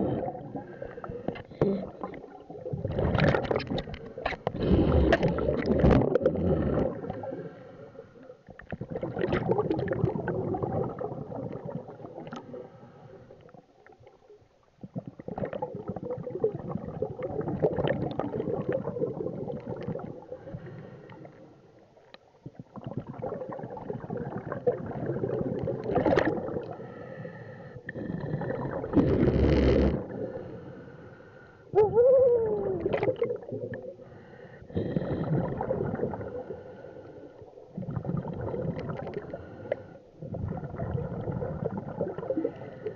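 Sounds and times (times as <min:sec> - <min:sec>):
scuba regulator bubbles: 0:00.0 - 0:30.9, 0:31.7 - 0:42.9.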